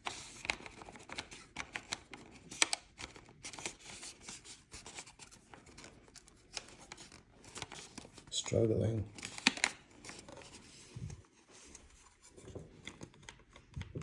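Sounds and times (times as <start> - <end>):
plastic parts clicking and rubbing: 0.0 - 14.0.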